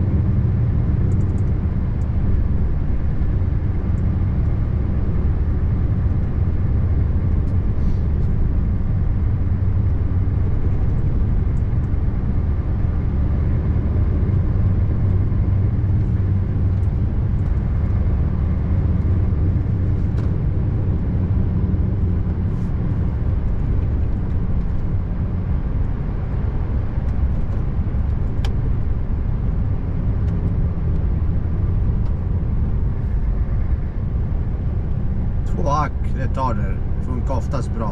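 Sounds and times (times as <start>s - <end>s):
diesel truck engine droning: 0.0s - 37.9s
road noise: 0.0s - 37.9s.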